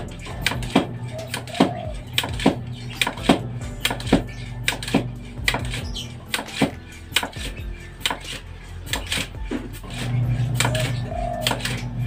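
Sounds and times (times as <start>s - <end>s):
low hum: 0.0s - 12.0s
metal rod clacking: 0.0s - 12.0s.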